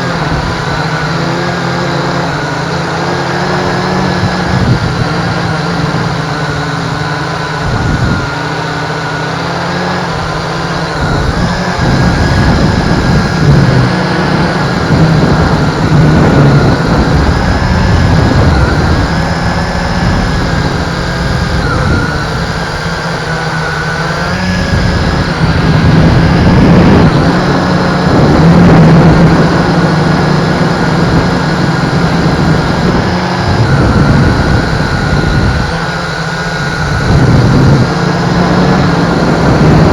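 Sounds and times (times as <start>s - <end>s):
quadcopter motors whining: 0.0s - 39.9s
wind buffeting rumble: 0.0s - 39.9s.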